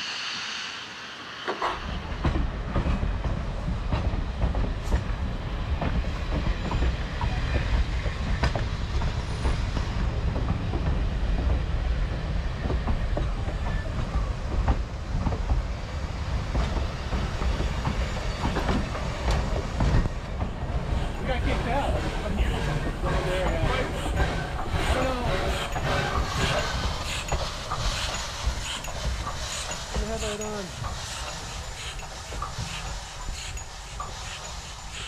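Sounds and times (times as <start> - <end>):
train coaches rumbling past: 0.0 - 35.0
wheels clicking on track: 5.8 - 35.0.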